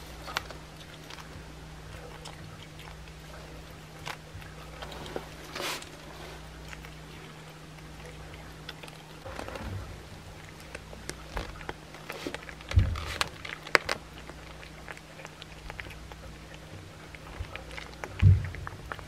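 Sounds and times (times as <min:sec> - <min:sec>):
cat chewing and crunching bone: 0:00.0 - 0:19.0.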